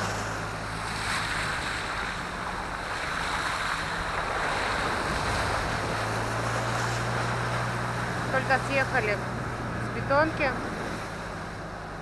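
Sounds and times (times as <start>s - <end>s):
tyre and road noise: 0.0s - 12.0s
vehicle engine drone: 0.0s - 12.0s.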